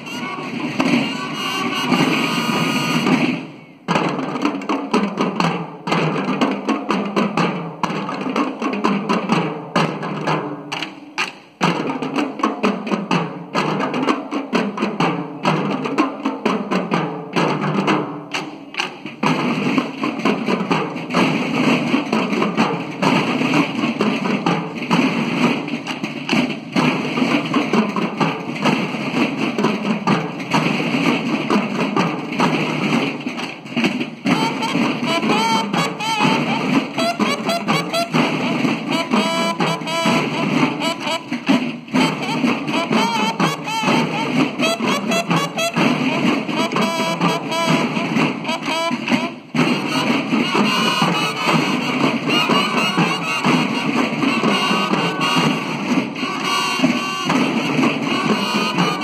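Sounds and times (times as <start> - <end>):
marching snare drums: 0.0 - 59.0.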